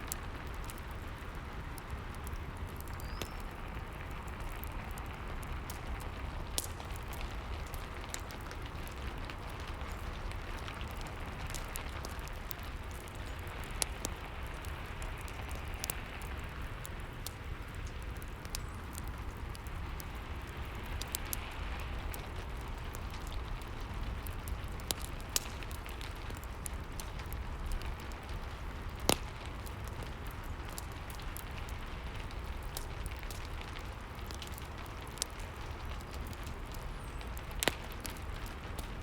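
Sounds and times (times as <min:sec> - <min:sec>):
fireplace fire crackling: 0:00.0 - 0:39.0
steady rain: 0:00.0 - 0:39.0.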